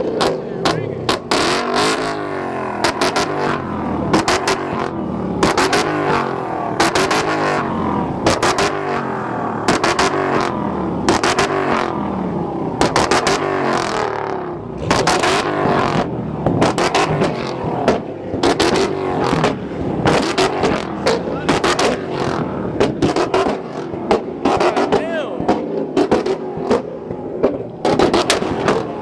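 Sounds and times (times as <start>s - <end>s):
car engine revving: 0.0s - 29.0s
exhaust cracks: 0.0s - 29.0s.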